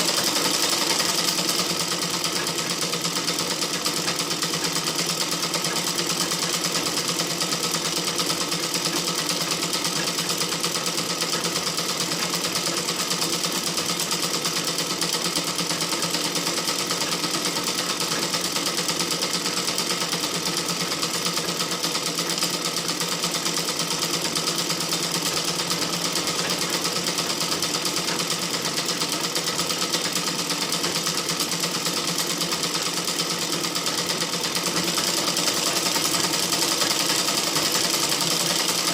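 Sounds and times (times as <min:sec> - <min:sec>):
electric sewing machine running: 0:00.0 - 0:38.9.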